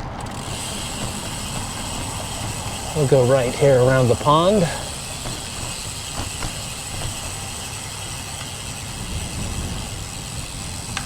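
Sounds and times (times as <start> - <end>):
tyre and road noise: 0.0 - 11.0
wind buffeting microphone: 0.0 - 11.0.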